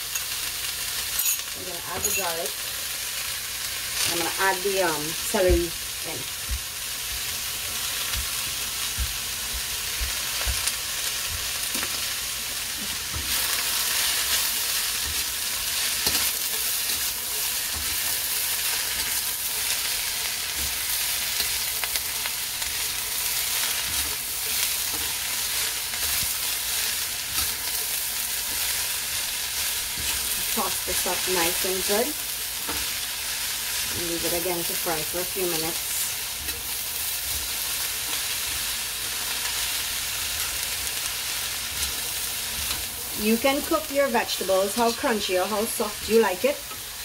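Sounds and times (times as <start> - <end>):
vegetables sizzling in a wok: 0.0 - 47.0.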